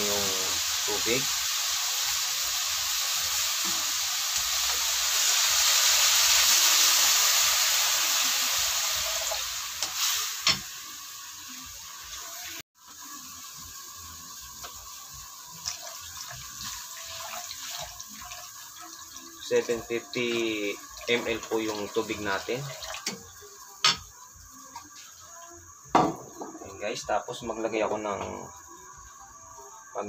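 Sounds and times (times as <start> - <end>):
water hissing in hot wok: 0.0 - 30.0.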